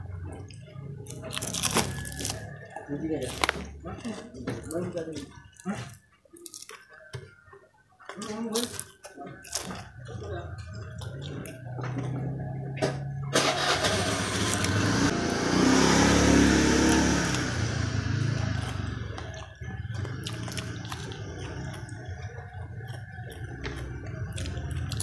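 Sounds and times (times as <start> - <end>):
vehicle engine humming: 0.0 - 5.6, 9.8 - 25.0.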